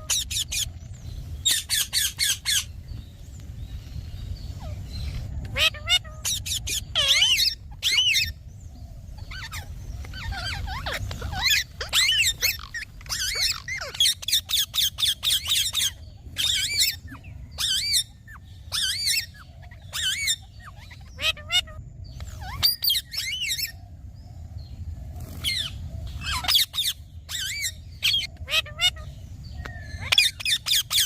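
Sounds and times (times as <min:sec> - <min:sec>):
parakeet chirps and squawks: 0:00.0 - 0:03.0, 0:04.2 - 0:31.0.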